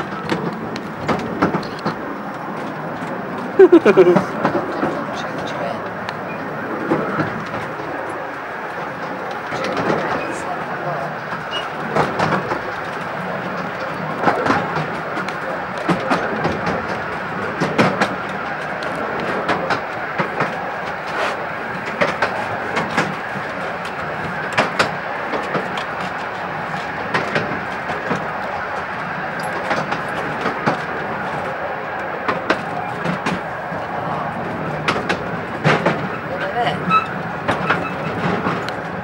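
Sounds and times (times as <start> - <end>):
miniature train rumbling: 0.0 - 39.0
wheels clicking on rails: 0.0 - 39.0.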